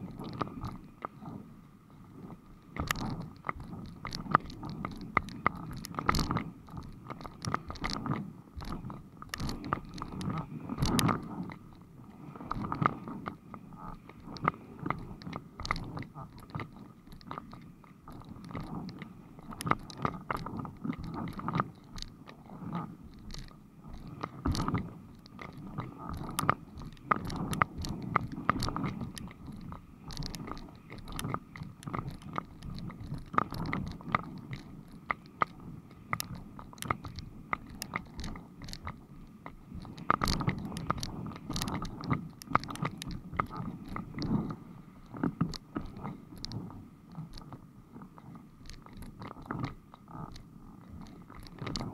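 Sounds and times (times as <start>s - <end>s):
muffled rumble of water and wind: 0.0s - 51.9s.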